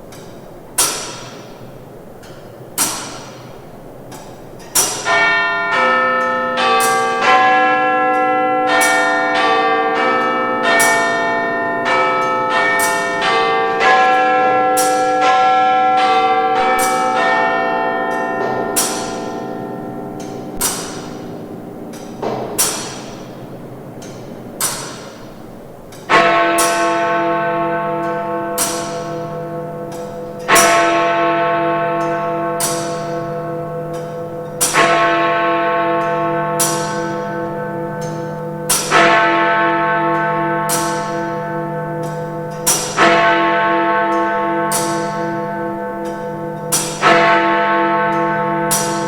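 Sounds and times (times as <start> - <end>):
clock mechanism ticking: 0.0 - 49.0
tower bell chiming: 4.8 - 49.0.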